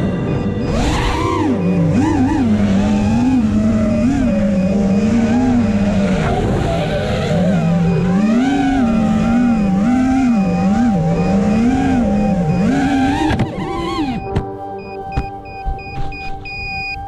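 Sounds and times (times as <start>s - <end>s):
drone motors and props whining: 0.0s - 17.0s.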